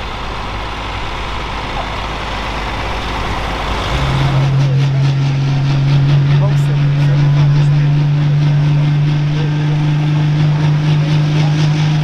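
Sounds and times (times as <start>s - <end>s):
deep steady hum: 0.0s - 12.0s
tractor diesel engine running: 0.0s - 12.0s.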